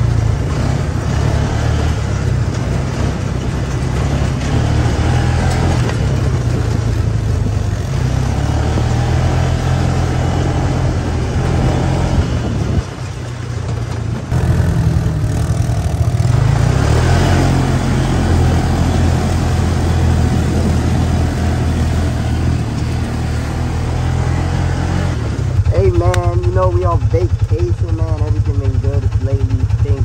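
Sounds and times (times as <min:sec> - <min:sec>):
road and wind noise: 0:00.0 - 0:30.0
vehicle engine running: 0:00.0 - 0:30.0.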